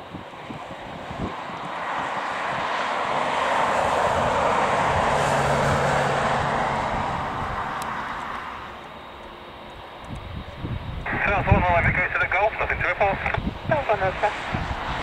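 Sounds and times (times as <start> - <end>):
jet aircraft taxiing: 0.0 - 15.0.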